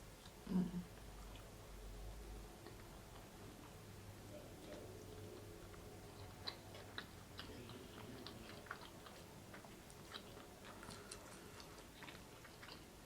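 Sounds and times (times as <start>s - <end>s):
soft chewing: 0.0s - 13.0s.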